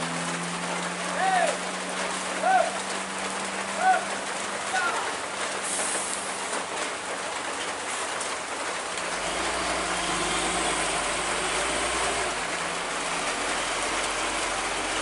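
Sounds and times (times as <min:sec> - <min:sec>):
heavy truck engine under load: 0:00.0 - 0:15.0.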